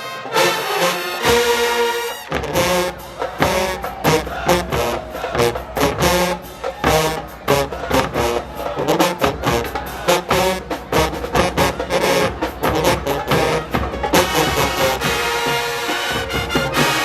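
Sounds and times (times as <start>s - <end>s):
brass horns: 0.0s - 17.0s
drumline: 0.0s - 17.0s.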